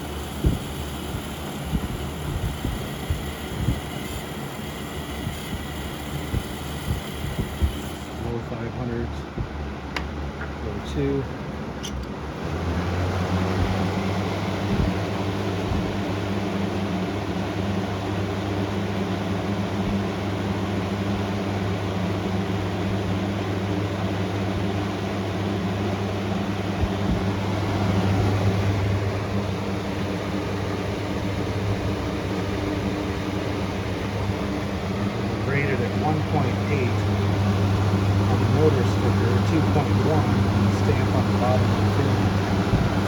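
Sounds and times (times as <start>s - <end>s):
rush of air from fan: 0.0s - 10.3s, 12.2s - 43.0s
electric fan motor hum: 0.0s - 43.0s.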